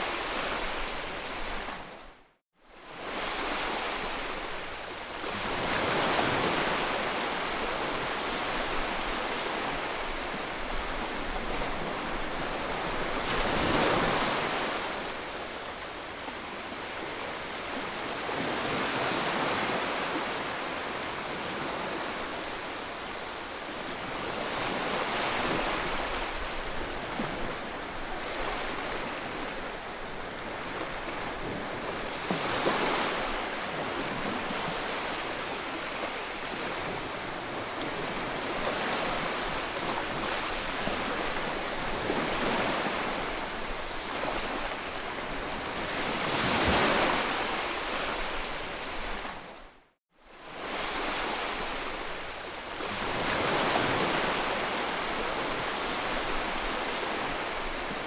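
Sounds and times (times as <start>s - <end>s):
sea waves breaking ashore: 2.8s - 49.6s.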